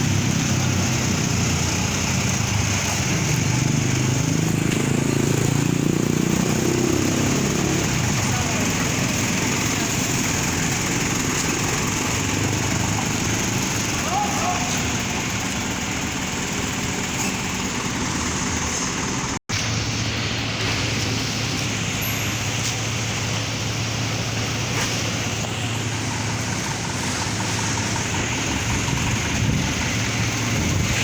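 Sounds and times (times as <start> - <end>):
road noise: 0.0 - 31.0
vehicle engine drone: 0.0 - 31.0.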